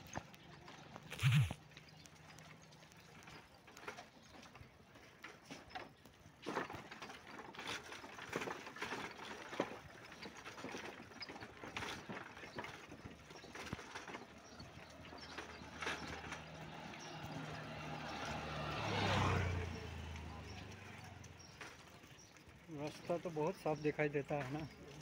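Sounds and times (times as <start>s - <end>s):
handcart rattling over paving: 0.0s - 25.0s.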